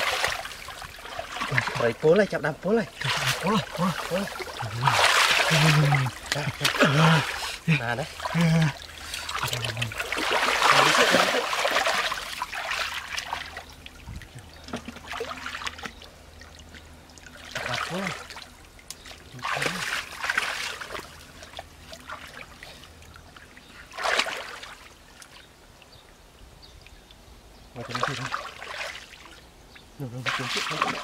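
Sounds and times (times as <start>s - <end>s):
water splashing: 0.0s - 25.4s, 27.8s - 29.4s, 30.0s - 31.0s
water trickling: 0.0s - 31.0s.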